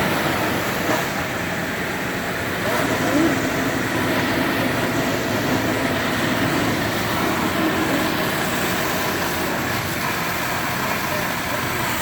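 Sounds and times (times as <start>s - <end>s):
heavy demolition machinery running: 0.0s - 12.0s.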